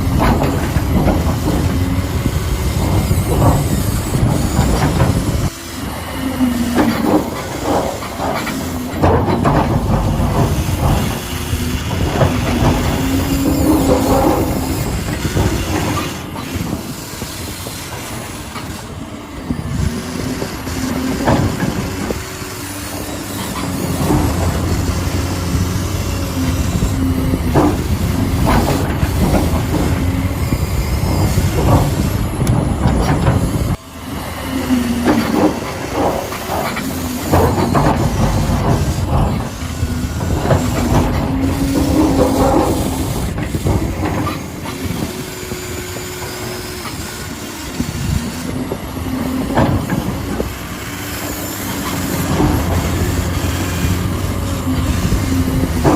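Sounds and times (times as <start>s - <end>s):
gear and metal clatter: 0.0s - 33.8s, 34.6s - 55.9s
small electric motors whining: 0.0s - 55.9s.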